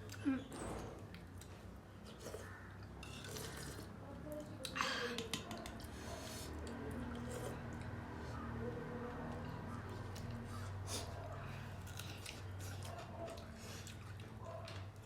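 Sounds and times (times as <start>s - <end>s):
chewing: 1.1s - 15.0s.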